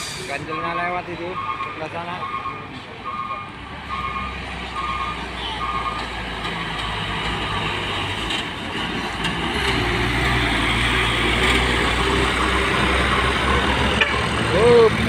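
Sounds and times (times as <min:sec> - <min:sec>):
truck diesel engine droning: 0:00.0 - 0:15.0.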